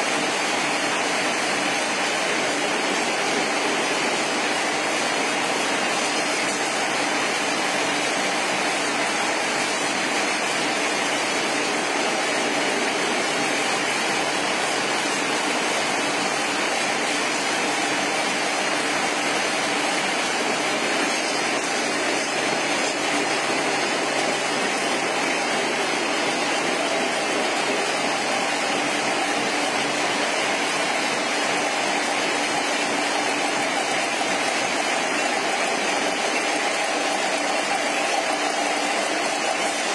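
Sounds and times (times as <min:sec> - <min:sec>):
mechanical hum: 0:00.0 - 0:39.9.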